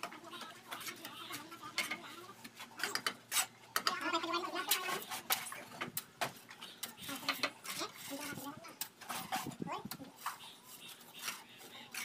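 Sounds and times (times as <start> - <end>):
trowels scraping bricks and mortar: 0.0 - 12.0.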